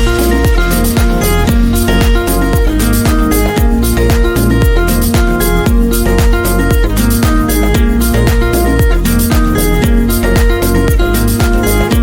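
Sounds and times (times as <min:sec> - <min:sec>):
held synth notes: 0:00.0 - 0:12.0
kick drum beat: 0:00.0 - 0:12.0.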